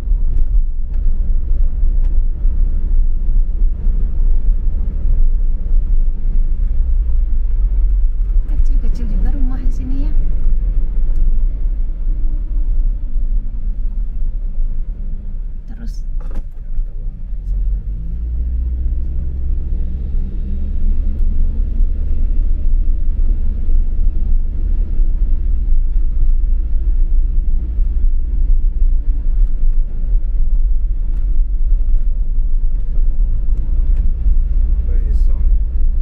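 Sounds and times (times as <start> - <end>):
car engine and tyre rumble: 0.0 - 36.0.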